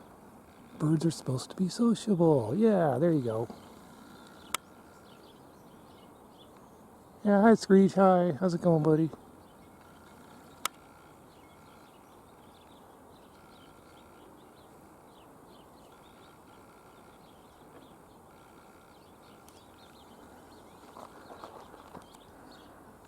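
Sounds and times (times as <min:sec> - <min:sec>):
distant small birds chirping: 0:00.0 - 0:23.0.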